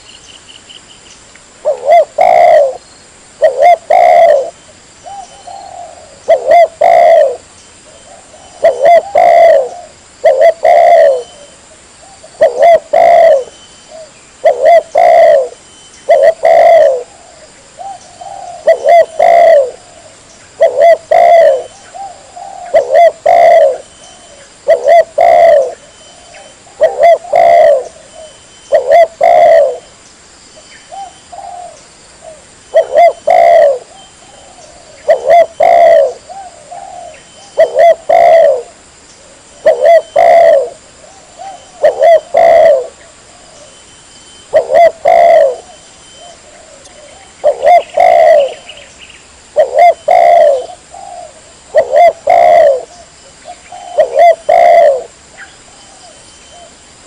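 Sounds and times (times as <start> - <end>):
dove cooing: 1.6 - 2.8, 3.4 - 29.9, 30.9 - 48.9, 49.5 - 56.8.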